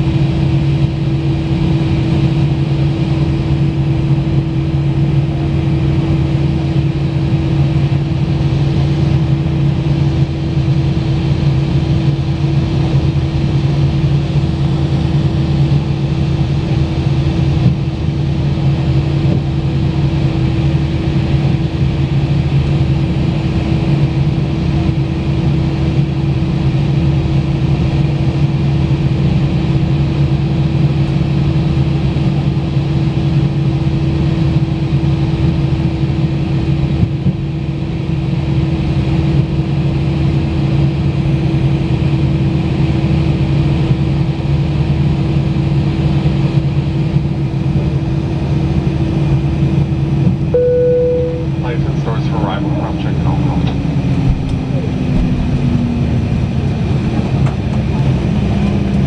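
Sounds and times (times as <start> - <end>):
jet engines idling in cabin: 0.0 - 59.0.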